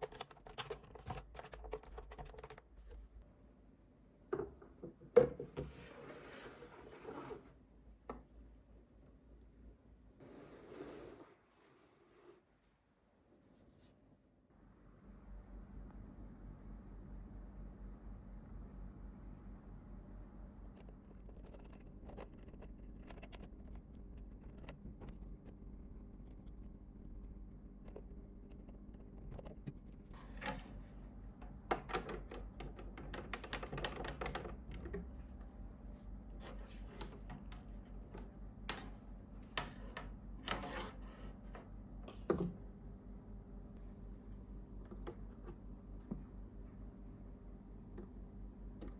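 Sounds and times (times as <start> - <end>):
low electrical hum: 0.0 - 48.9.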